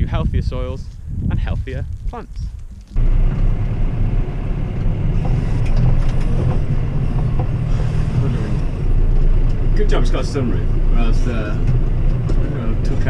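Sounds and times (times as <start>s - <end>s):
tractor engine rumble: 0.0s - 13.0s.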